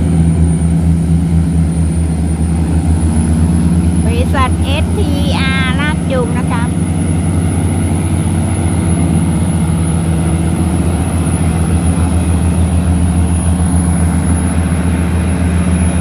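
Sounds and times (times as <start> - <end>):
tugboat diesel engines droning: 0.0 - 16.0.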